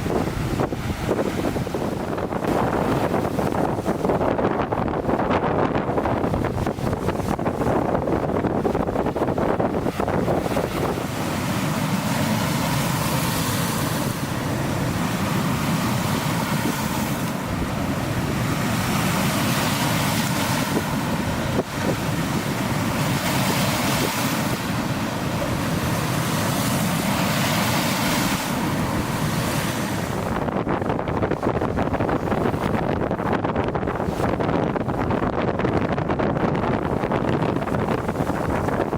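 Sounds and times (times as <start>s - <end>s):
lake waves breaking: 0.0s - 38.9s
wind buffeting microphone: 0.0s - 38.9s.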